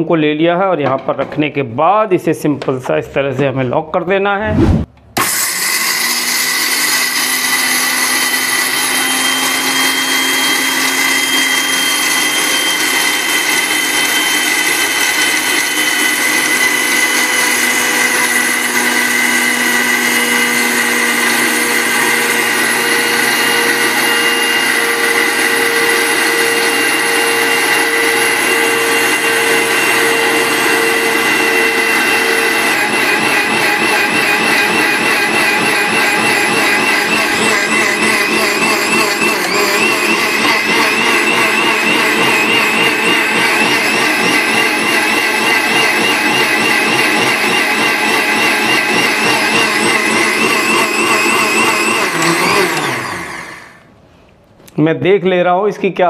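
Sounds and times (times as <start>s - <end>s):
mixer grinder whirring: 4.9s - 54.0s.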